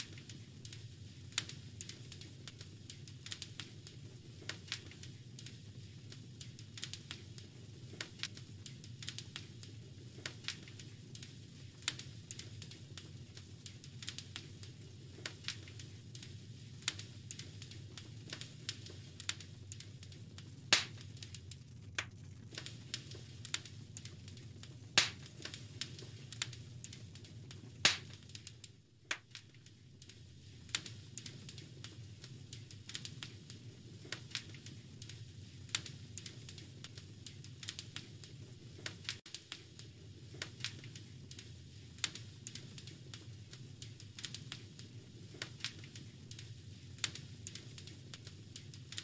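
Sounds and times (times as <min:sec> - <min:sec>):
fire crackling and popping: 0:00.0 - 0:49.0.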